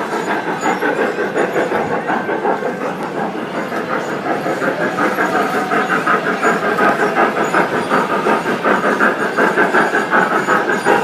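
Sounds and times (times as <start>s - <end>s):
model train clattering on track: 0.0s - 11.0s.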